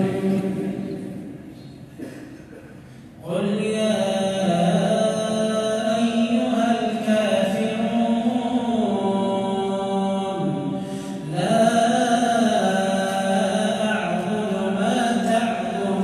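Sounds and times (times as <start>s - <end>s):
man chanting into a microphone: 0.0s - 1.3s, 3.2s - 16.0s.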